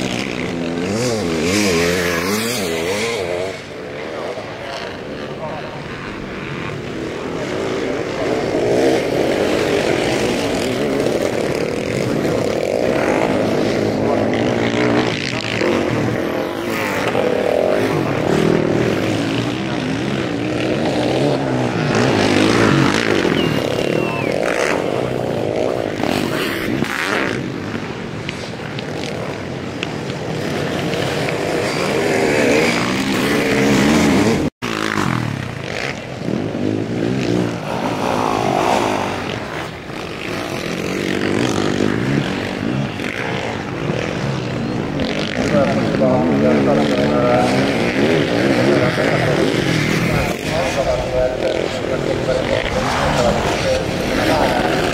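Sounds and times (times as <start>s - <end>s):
racing motorcycle engines revving: 0.0s - 54.9s.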